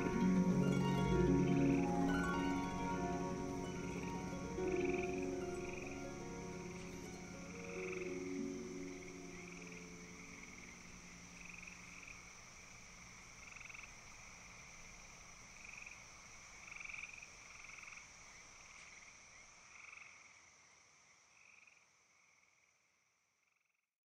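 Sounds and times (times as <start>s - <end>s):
high insect-like hum: 0.0s - 20.8s
frogs trilling: 0.0s - 22.6s.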